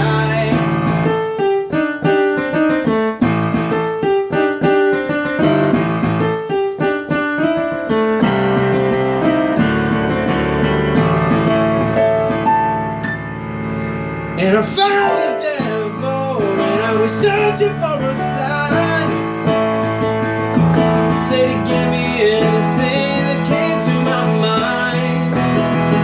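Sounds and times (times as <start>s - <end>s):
electric piano chords: 0.0s - 26.0s.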